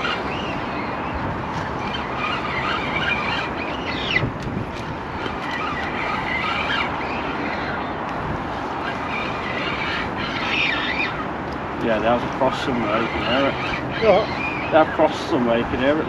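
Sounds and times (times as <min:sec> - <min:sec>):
fishing lines squeaking: 0:00.0 - 0:16.0
steady rushing noise: 0:00.0 - 0:16.0.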